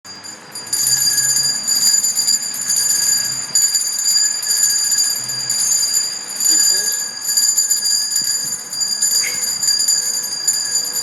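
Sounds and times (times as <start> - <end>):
hand bell jangling: 0.1 - 11.0.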